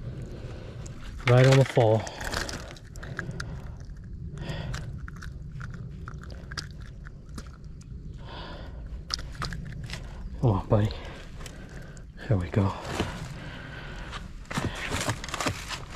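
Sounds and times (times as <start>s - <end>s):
steady low rumble: 0.0s - 15.9s
fish handling clicks and rustles: 0.6s - 8.0s, 8.8s - 15.9s.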